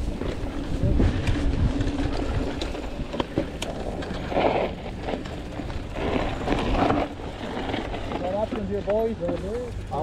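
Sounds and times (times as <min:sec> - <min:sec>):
rushes of noise: 0:00.0 - 0:08.4
bike knocks and rattles: 0:00.0 - 0:10.0
tyre and wind rumble: 0:00.0 - 0:10.0.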